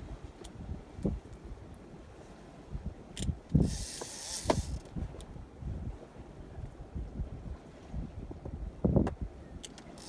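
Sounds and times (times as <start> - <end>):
wind buffeting microphone: 0.0 - 1.8, 2.6 - 9.6.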